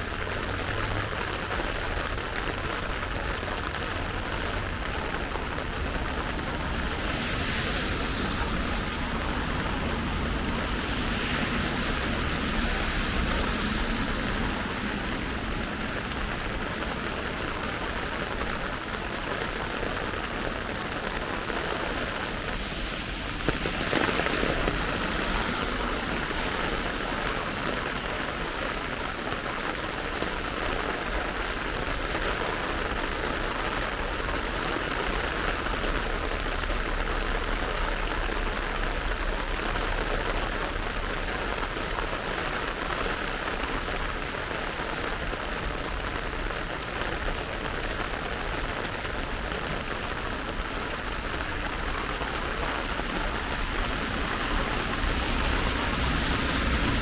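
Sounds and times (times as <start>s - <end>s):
rain falling and pattering: 0.0s - 57.0s.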